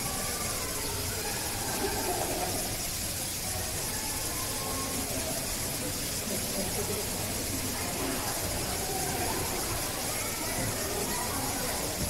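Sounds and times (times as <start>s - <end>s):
constant hiss: 0.0s - 12.0s
faint indistinct voices: 0.0s - 12.0s.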